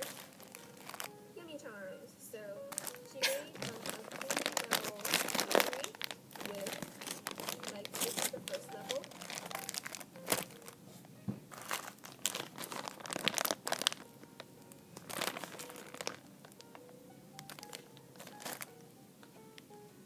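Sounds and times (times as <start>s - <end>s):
plastic bags crinkling: 0.0s - 1.2s, 2.7s - 10.9s, 11.5s - 18.8s
faint music with held notes: 0.0s - 20.0s.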